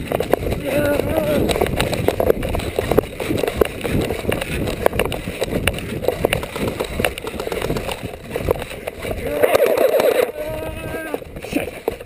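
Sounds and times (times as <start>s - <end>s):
running footsteps through dry grass: 0.0s - 12.0s.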